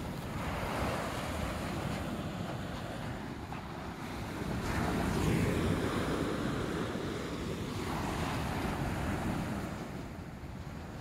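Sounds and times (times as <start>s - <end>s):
ocean surf washing up beach: 0.0s - 11.0s
wind buffeting microphone: 0.0s - 11.0s.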